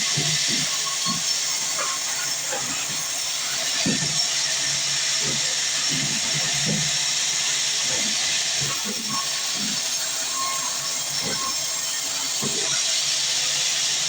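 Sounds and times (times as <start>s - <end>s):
band saw cutting through log: 0.0s - 14.0s.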